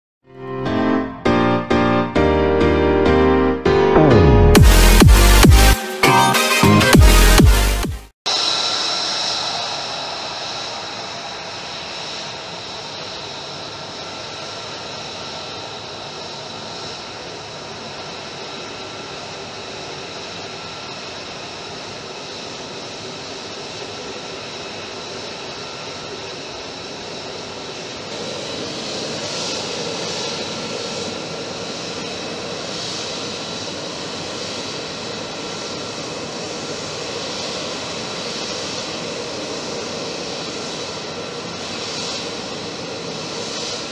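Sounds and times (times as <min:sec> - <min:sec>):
jet engine whining: 0:00.4 - 0:43.9.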